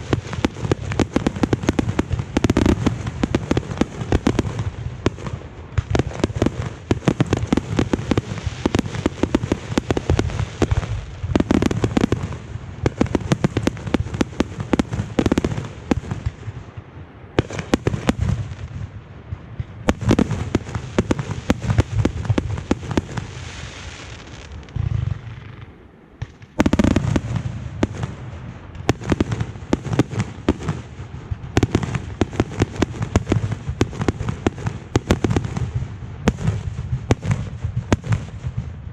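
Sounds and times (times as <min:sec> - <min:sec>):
fireworks bangs and crackling: 0:00.0 - 0:38.9
fireworks hiss: 0:00.0 - 0:38.9.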